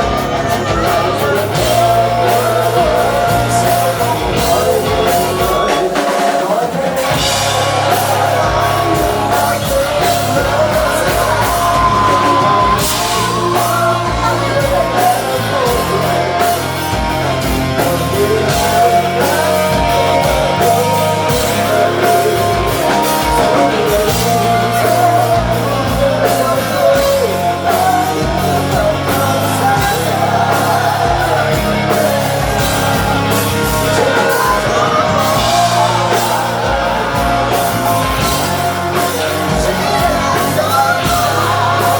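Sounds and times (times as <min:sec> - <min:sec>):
bass line: 0:00.0 - 0:41.9
drum kit: 0:00.0 - 0:41.9
guitars: 0:00.0 - 0:41.9
vocals: 0:00.0 - 0:41.9.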